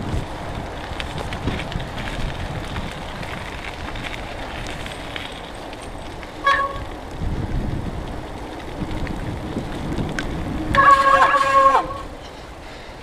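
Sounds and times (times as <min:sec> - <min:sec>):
wind buffeting microphone: 0:00.0 - 0:12.7
bicycle rumbling on wet path: 0:00.0 - 0:13.0.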